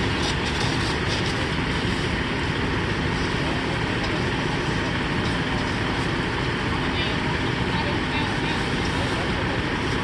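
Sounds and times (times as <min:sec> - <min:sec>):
fire engine pump rumble: 0:00.0 - 0:10.0
fire hoses spraying water: 0:00.0 - 0:10.0.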